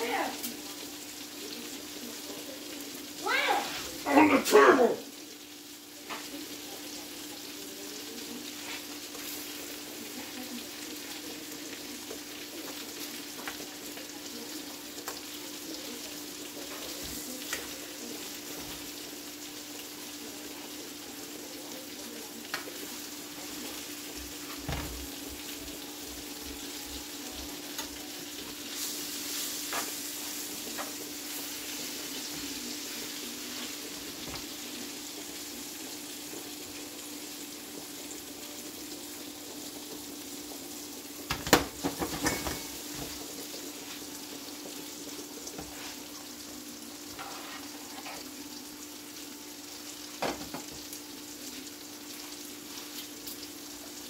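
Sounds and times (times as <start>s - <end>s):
chicken sizzling in skillet: 0.0s - 54.0s.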